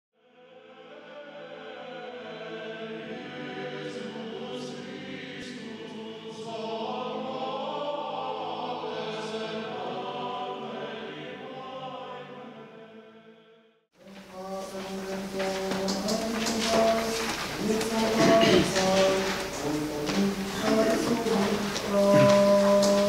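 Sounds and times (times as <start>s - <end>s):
choir singing a slow chant: 0.2s - 23.0s.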